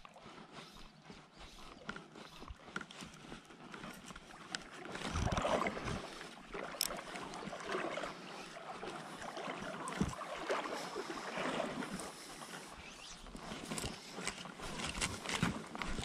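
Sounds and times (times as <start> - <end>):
creek water sloshing: 0.0 - 16.0.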